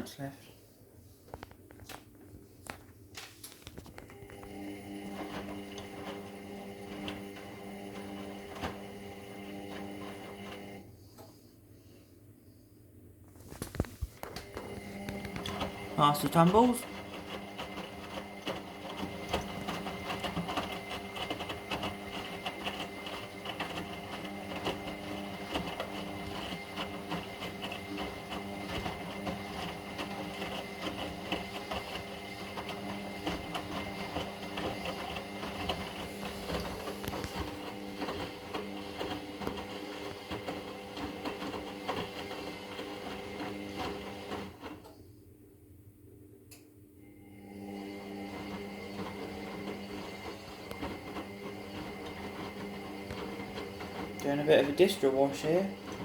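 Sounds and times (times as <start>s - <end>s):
washing machine motor hum and whine: 3.7s - 11.4s, 13.4s - 45.6s, 46.8s - 56.0s.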